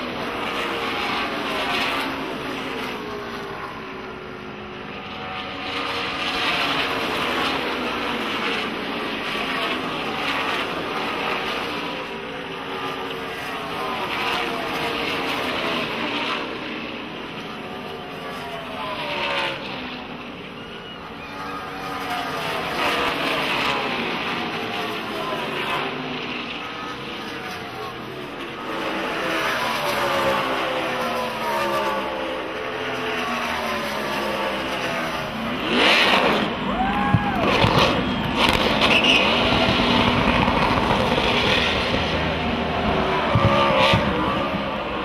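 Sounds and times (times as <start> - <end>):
race car engines passing by: 0.0 - 45.0.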